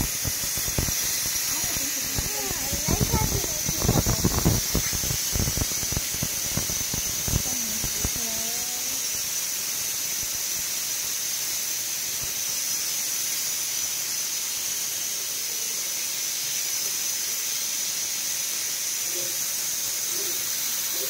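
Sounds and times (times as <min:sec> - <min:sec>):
curry boiling hard: 0:00.0 - 0:21.0.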